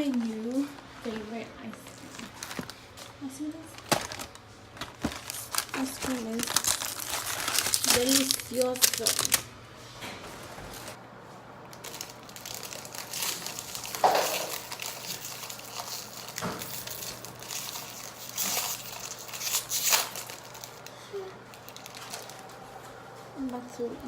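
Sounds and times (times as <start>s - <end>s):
packaging crinkling: 0.0s - 9.5s, 11.7s - 22.9s.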